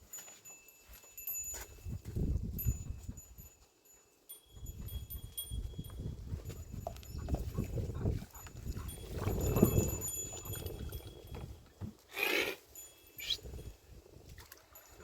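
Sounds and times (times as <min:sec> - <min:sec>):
goats moving about: 0:00.0 - 0:12.0.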